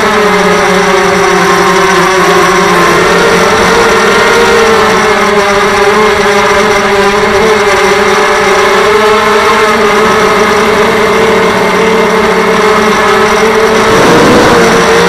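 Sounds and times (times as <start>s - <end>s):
drone propellers buzzing whine: 0.0s - 15.0s.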